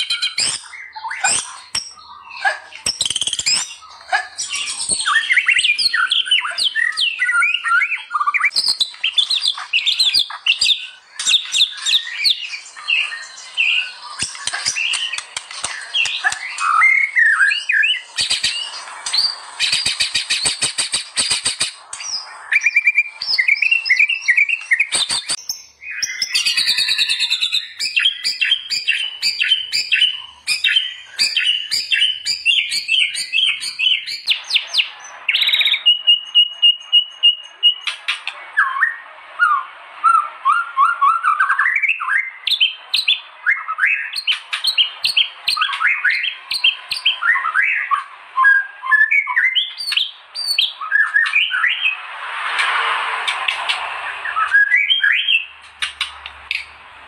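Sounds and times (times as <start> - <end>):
bird singing whistled phrases: 0.0 - 52.0, 54.2 - 55.5.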